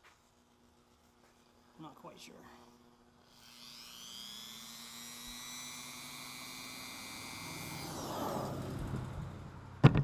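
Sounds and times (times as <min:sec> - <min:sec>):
rotary tool motor whining: 0:00.2 - 0:09.5.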